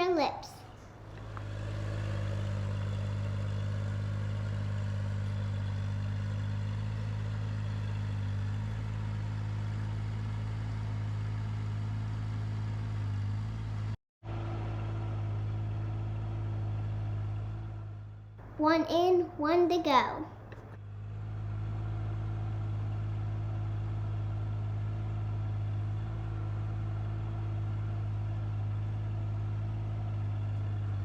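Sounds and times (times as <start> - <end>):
skid steer engine running: 0.8 - 18.6, 20.4 - 31.0.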